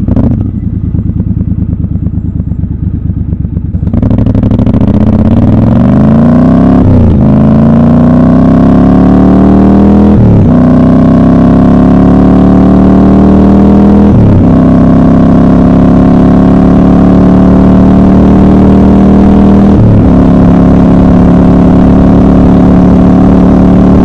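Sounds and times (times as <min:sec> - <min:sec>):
motorcycle engine under load: 0:00.0 - 0:24.0.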